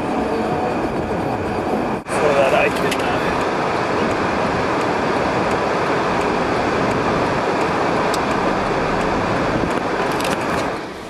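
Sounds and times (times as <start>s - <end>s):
car road noise from cabin: 0.0s - 11.0s
tyres hissing on wet road: 2.0s - 11.0s.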